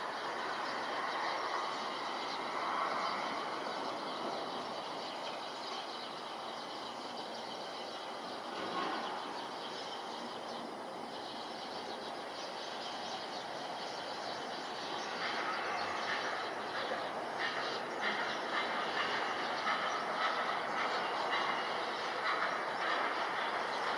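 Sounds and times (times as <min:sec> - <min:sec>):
jet engines with high whine: 0:00.0 - 0:23.9.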